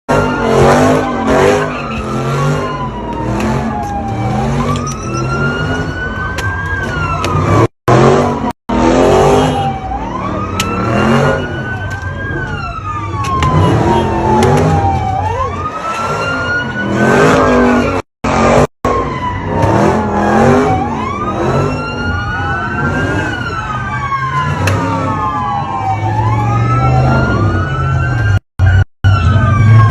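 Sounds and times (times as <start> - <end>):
car engines revving: 0.1 - 29.9
police sirens wailing: 0.1 - 29.9.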